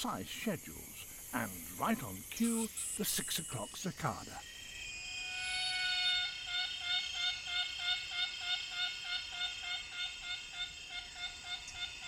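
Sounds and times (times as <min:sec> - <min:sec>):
cicada buzzing call: 0:00.0 - 0:12.0
high drone of insects: 0:00.0 - 0:12.0.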